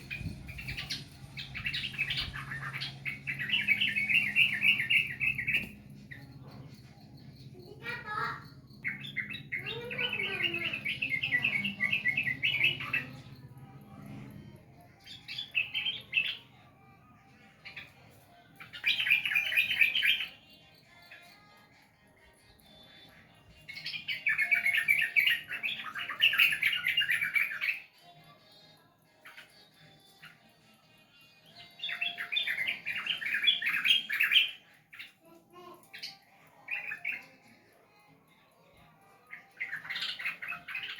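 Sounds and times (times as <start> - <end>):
bird singing rapid notes: 0.0 - 40.9.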